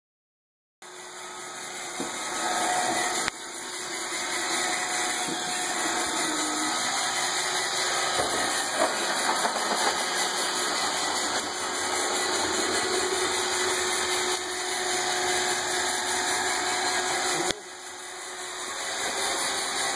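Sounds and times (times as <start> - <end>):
robot vacuum whirring: 0.9 - 19.9.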